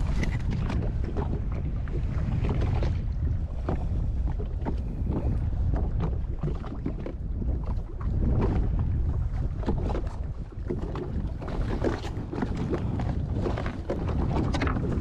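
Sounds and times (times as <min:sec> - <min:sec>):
water sounds: 0:00.0 - 0:15.0
wind buffeting microphone: 0:00.0 - 0:15.0.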